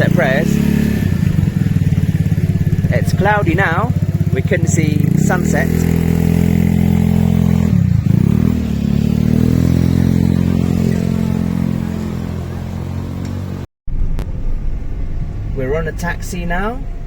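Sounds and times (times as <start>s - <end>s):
motorcycle engine revving: 0.0s - 16.3s.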